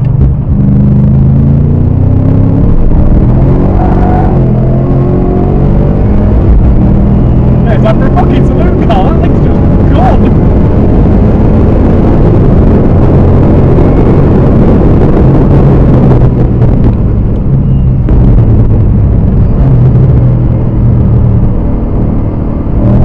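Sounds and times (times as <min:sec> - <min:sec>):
car engine running hard: 0:00.0 - 0:23.0.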